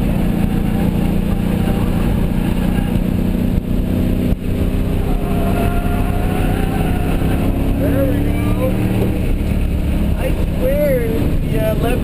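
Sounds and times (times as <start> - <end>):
car engine from inside cabin: 0.0 - 12.0.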